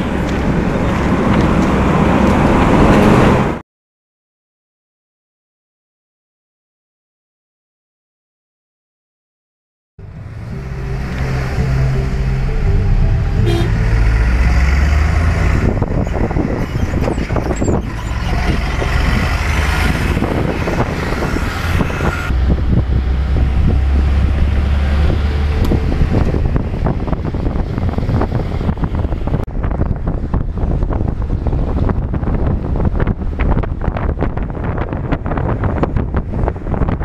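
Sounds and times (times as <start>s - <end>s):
vehicle engine and road rumble: 0.0s - 3.6s, 10.0s - 37.0s.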